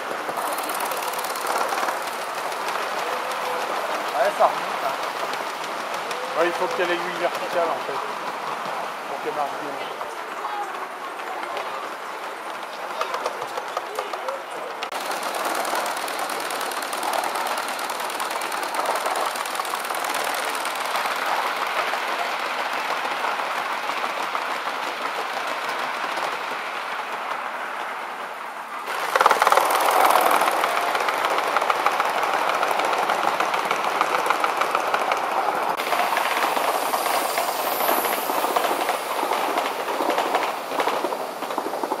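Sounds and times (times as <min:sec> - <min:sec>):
train wheels clattering on track: 0:00.0 - 0:42.0.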